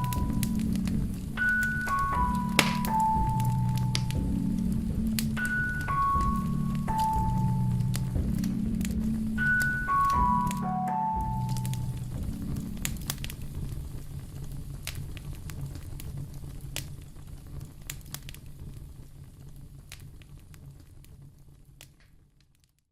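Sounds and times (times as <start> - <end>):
low rumble: 0.0 - 21.4
fireplace crackling and popping: 0.0 - 22.9.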